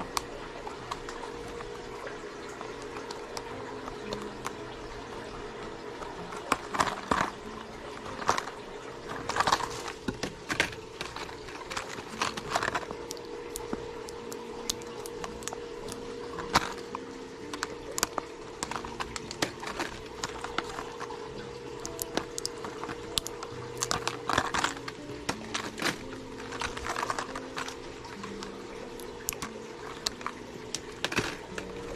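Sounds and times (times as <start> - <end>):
plastic packaging crinkling: 0.0 - 31.9.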